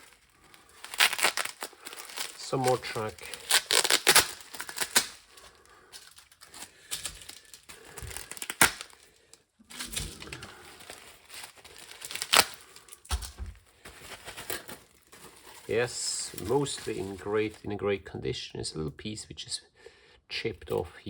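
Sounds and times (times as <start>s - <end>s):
paper crumpling and tearing: 0.0s - 9.1s, 9.7s - 17.6s.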